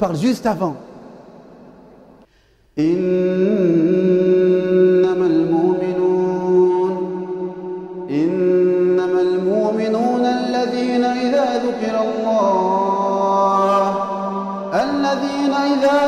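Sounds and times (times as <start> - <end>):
person chanting recitation: 2.8 - 16.0.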